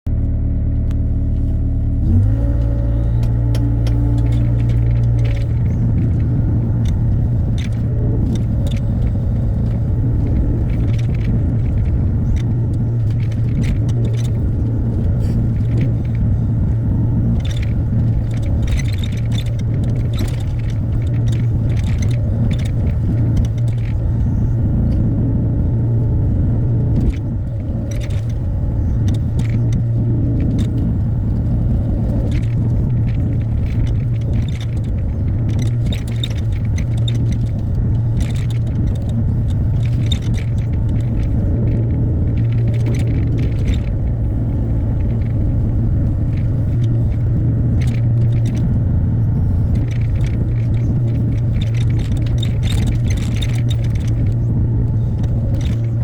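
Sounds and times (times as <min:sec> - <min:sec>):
diesel engine droning: 0:00.0 - 0:56.0
excavator clanks and rattles: 0:00.1 - 0:56.0.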